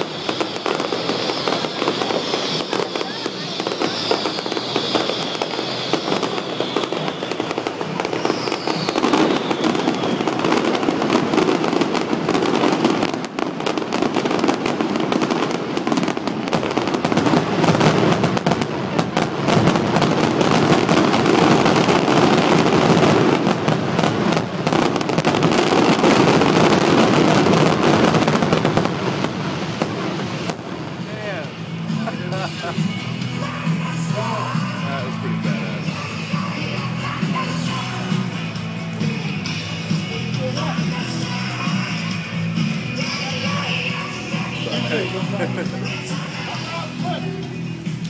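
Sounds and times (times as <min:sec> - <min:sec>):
fireworks bangs and crackling: 0:00.0 - 0:48.0
fireworks falling whistles: 0:00.0 - 0:48.0.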